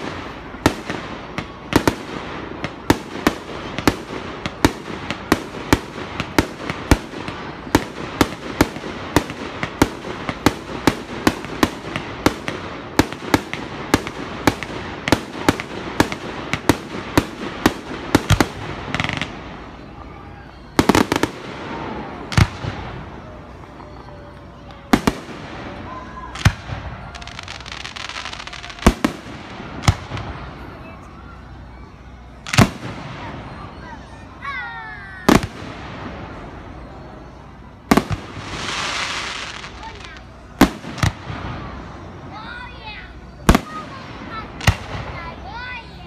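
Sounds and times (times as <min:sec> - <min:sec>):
fireworks bangs: 0:00.0 - 0:46.0.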